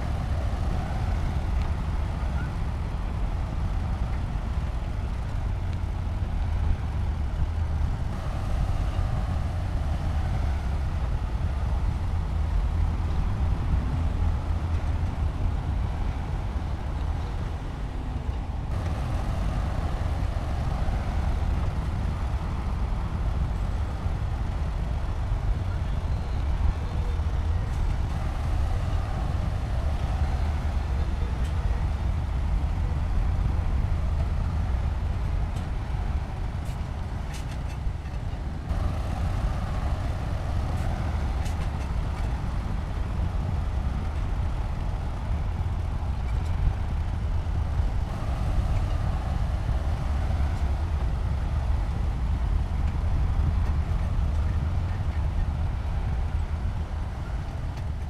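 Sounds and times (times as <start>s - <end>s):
heavy machinery diesel engine rumbling: 0.0s - 58.0s.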